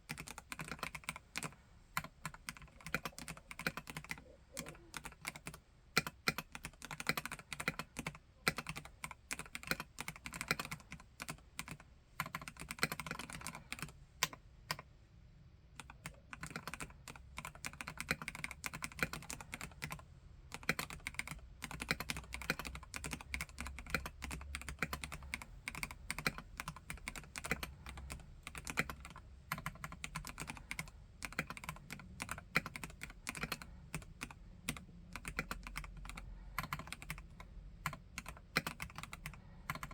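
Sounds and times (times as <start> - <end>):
fast typing on mechanical keyboard: 0.0 - 14.8, 15.8 - 39.9.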